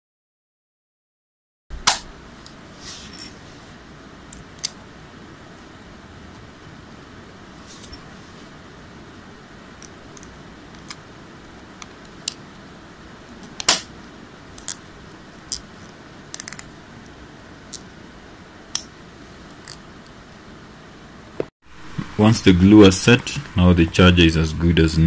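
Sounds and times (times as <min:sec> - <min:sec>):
steady low hiss: 0:01.7 - 0:25.0.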